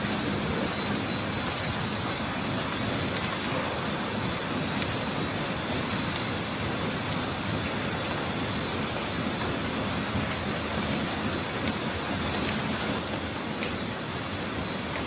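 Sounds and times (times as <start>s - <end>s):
high-pitched insect drone: 0.0s - 14.9s
rushing night ambience: 0.0s - 15.0s.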